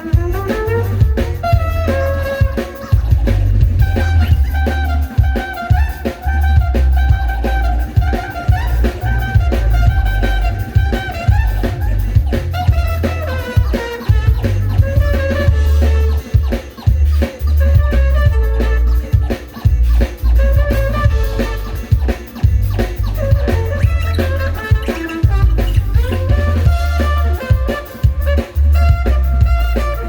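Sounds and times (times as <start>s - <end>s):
brass horns playing: 0.0s - 30.0s
drum kit beat: 0.0s - 30.0s
heavy bass line: 0.0s - 30.0s.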